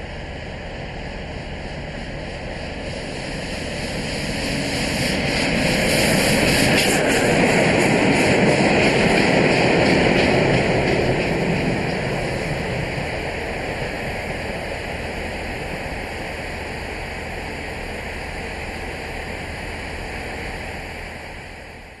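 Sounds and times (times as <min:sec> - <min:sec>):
train rushing past: 0:00.0 - 0:22.0.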